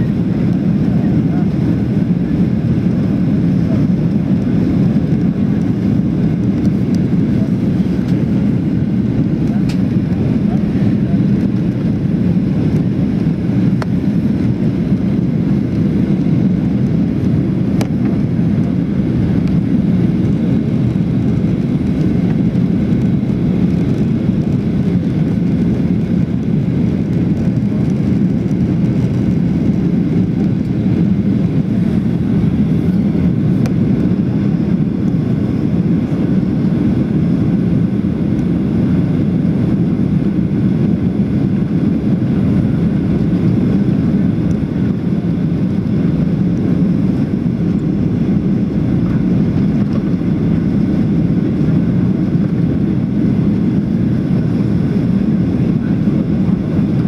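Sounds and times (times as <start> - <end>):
airliner cabin engine noise: 0.0 - 57.0.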